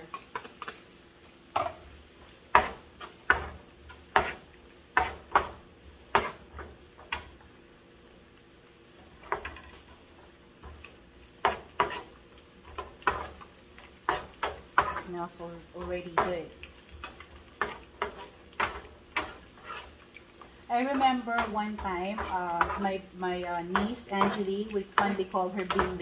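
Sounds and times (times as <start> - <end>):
spatula scraping frying pan: 1.6 - 7.3, 9.0 - 26.0.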